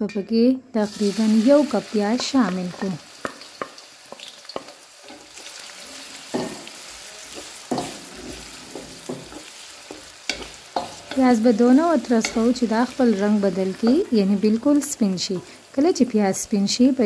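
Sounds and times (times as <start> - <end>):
onions sizzling in oil: 0.8 - 17.0.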